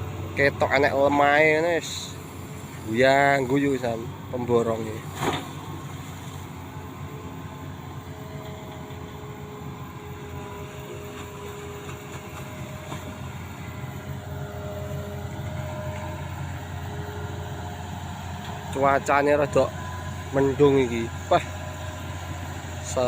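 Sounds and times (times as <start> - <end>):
diesel engine drone: 0.0 - 23.0
faint steady whine: 0.0 - 23.0.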